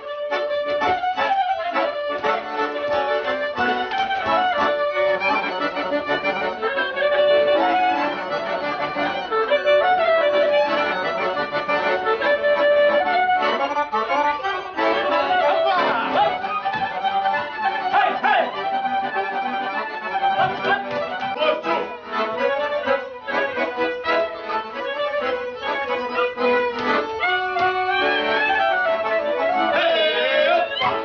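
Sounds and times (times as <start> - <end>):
accordion playing folk dance tune: 0.0 - 31.0.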